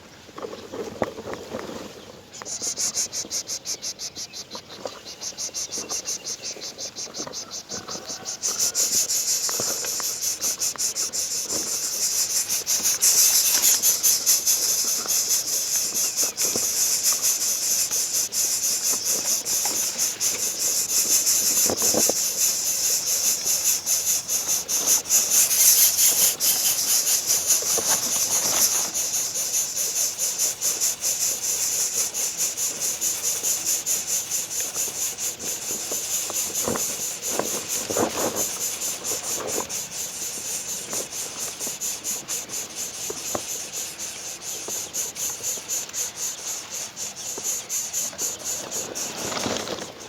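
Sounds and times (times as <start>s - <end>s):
insect chorus hissing: 0.0s - 50.0s.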